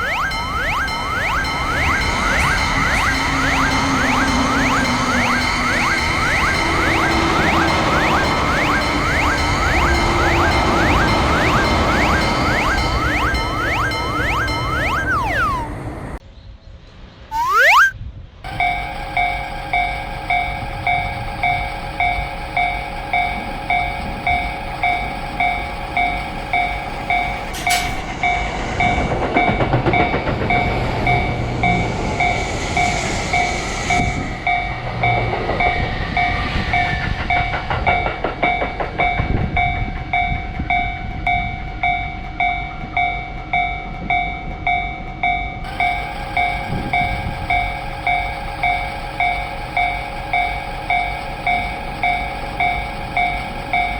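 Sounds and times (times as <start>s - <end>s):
electric train passing: 0.0s - 16.2s, 18.5s - 53.9s
level crossing alarm bell: 0.0s - 16.2s, 18.5s - 53.9s.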